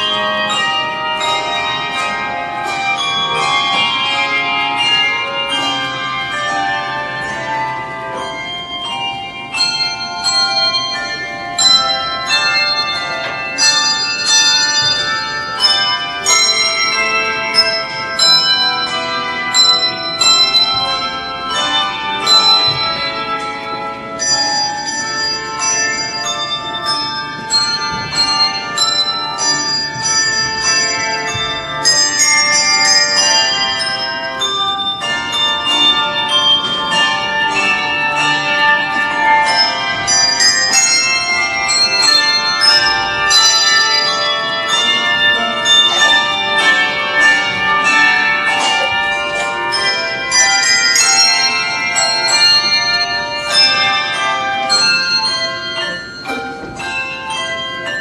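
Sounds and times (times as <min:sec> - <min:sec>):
handbell choir ringing: 0:00.0 - 0:58.0.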